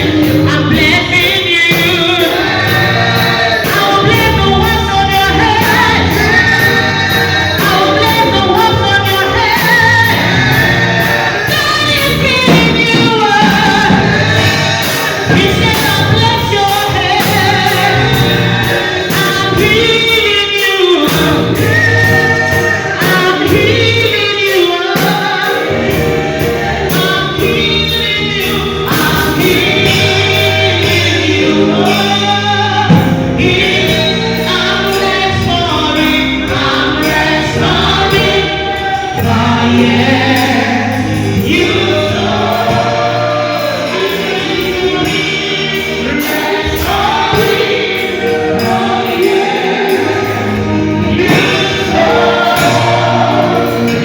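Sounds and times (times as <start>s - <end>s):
band playing a steady beat: 0.0s - 54.0s
choir singing gospel: 0.0s - 54.0s.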